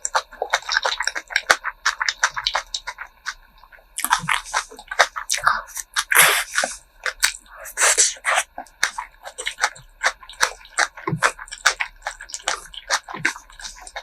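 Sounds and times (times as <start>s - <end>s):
chewing with wet smacks: 0.0s - 14.0s.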